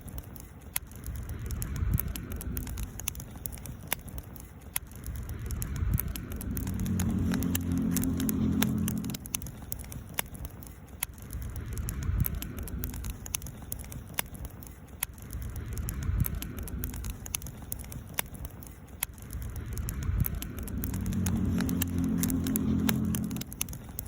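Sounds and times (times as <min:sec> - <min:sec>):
campfire crackling and popping: 0:00.0 - 0:24.0
low rumble: 0:01.0 - 0:03.9, 0:04.9 - 0:14.5, 0:15.2 - 0:24.0.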